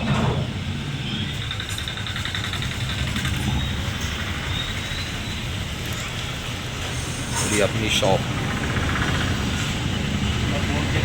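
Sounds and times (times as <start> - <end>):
continuous background noise: 0.0 - 11.0.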